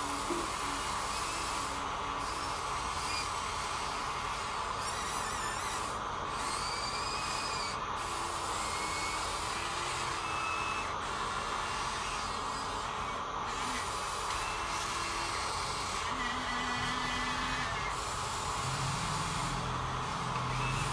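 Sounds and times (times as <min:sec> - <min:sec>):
small electric motors whirring: 0:00.0 - 0:20.9.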